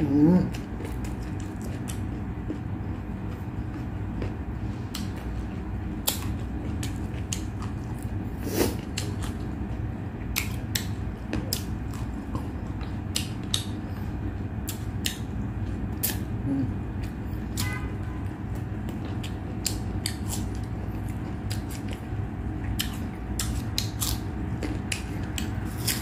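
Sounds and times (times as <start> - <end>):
steady low hum: 0.0 - 26.0
chewing with clicks and smacks: 0.4 - 26.0.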